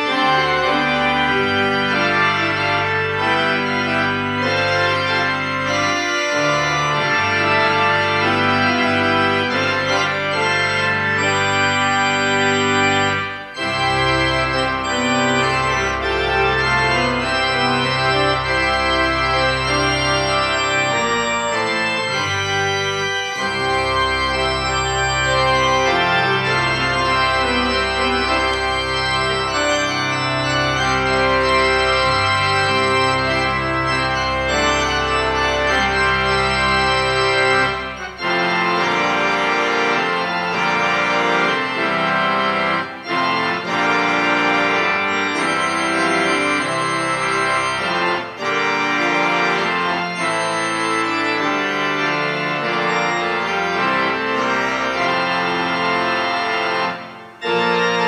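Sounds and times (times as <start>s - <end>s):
church organ chords: 0.0s - 58.0s
low organ pedal bass: 0.0s - 58.0s.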